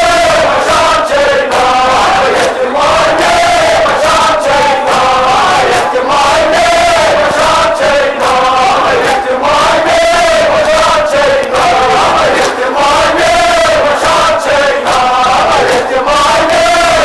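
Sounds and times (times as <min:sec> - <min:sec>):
group chanting mourning song: 0:00.0 - 0:17.0.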